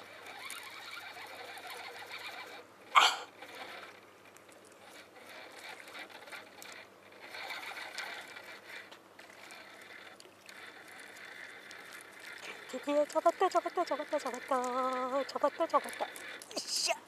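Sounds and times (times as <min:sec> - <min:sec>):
fishing reel gears whirring: 0:00.0 - 0:04.1, 0:04.8 - 0:17.0.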